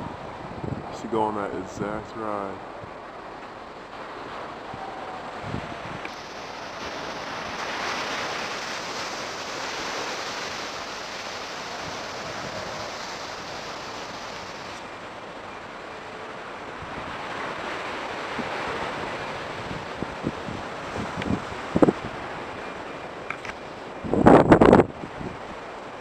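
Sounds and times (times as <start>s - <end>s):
ocean surf breaking: 0.0s - 26.0s
wind on microphone: 0.0s - 26.0s.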